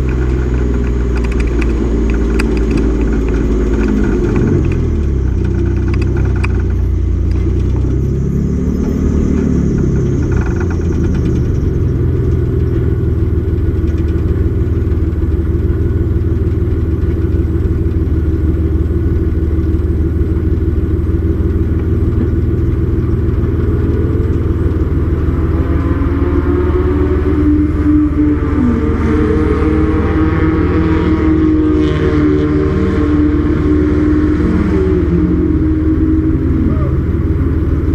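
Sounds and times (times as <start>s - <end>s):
race truck engine running hard: 0.0s - 37.9s.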